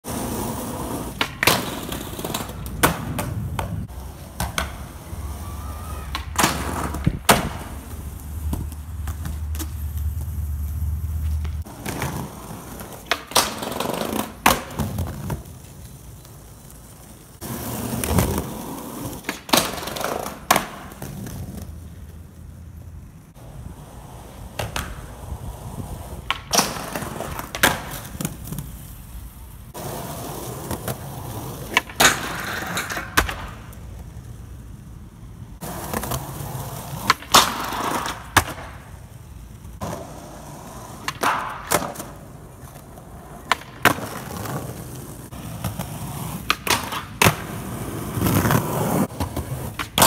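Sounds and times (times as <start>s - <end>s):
skateboard wheels rolling on concrete: 0.0s - 50.0s
skateboard tail clacking: 0.1s - 29.0s, 29.7s - 34.3s, 35.6s - 50.0s.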